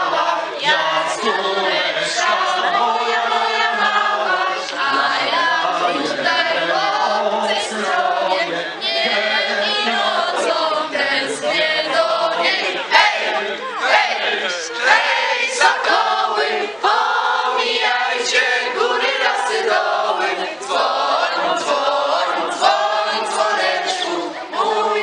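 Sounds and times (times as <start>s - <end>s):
group singing unaccompanied: 0.0s - 25.0s.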